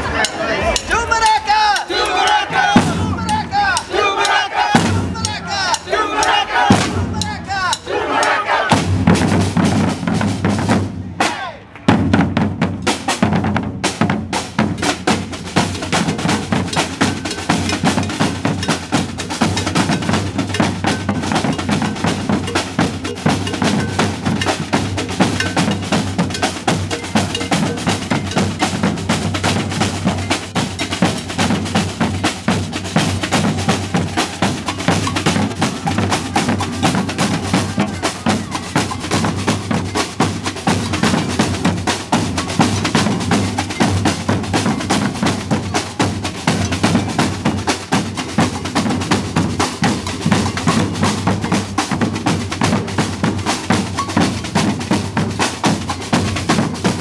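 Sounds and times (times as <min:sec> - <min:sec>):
drum ensemble playing: 0:00.0 - 0:57.0.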